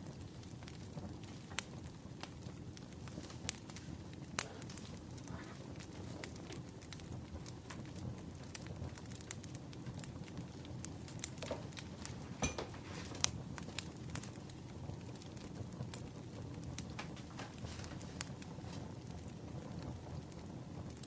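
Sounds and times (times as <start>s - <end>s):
firewood crackling: 0.0s - 21.0s.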